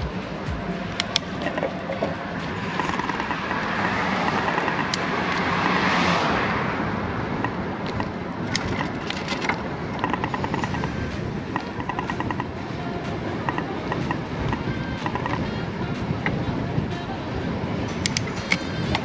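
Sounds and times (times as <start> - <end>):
road noise: 0.0 - 19.0
vehicle passing: 0.0 - 19.0.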